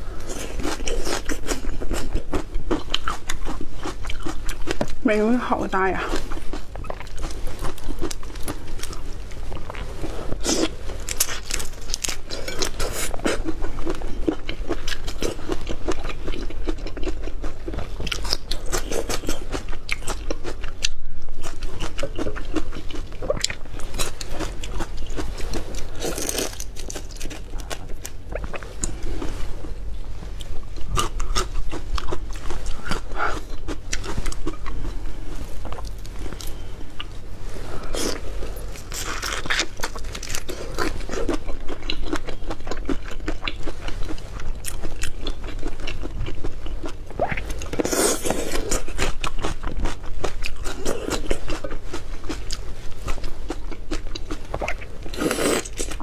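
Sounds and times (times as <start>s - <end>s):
biting and wet chewing: 0.2s - 29.4s, 37.9s - 56.0s.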